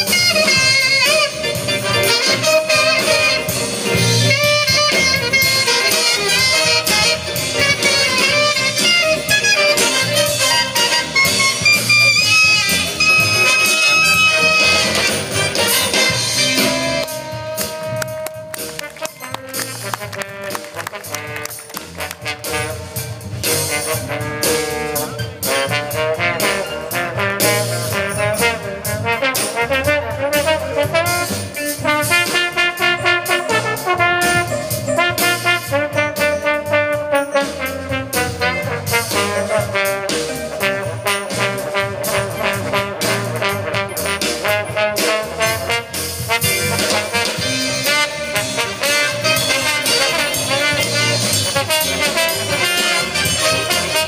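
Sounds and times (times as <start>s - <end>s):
brass section melody: 0.0s - 54.0s
jazz ensemble playing: 0.0s - 54.0s.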